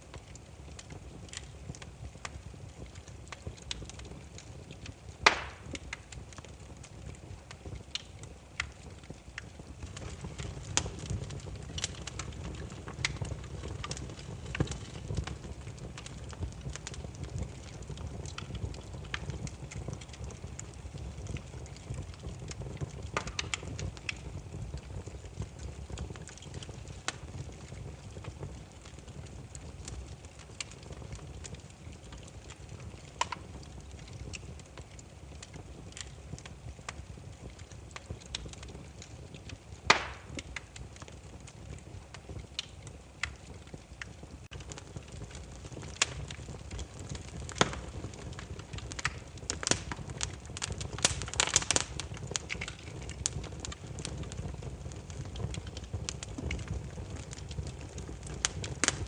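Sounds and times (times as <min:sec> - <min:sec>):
firewood crackling: 0:00.0 - 0:59.0
low rumble of flames: 0:00.0 - 0:59.0.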